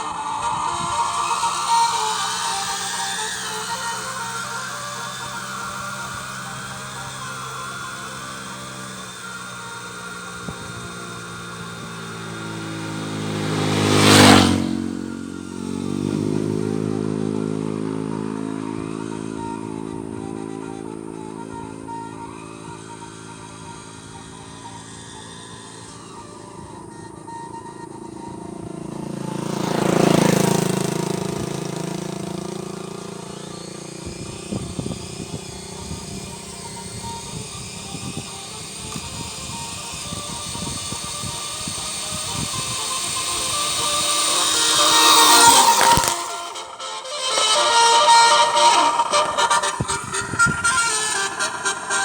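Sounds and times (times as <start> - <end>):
motor vehicle passing by: 0.0 - 52.0
steady running hum: 0.0 - 52.0.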